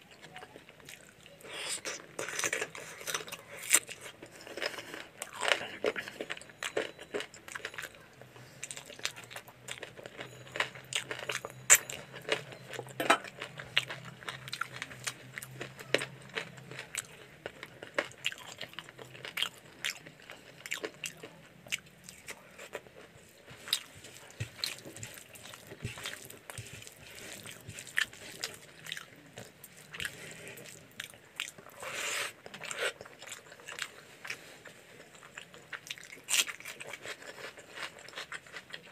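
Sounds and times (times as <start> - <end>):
person chewing food: 0.1 - 38.9.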